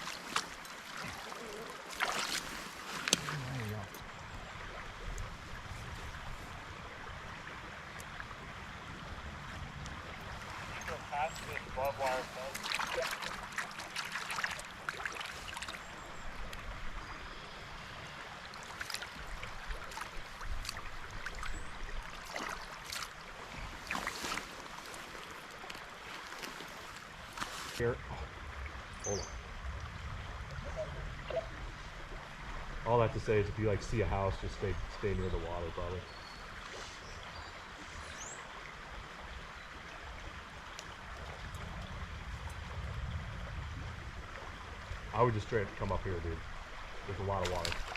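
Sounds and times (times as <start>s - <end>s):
stream water running: 0.0s - 47.9s.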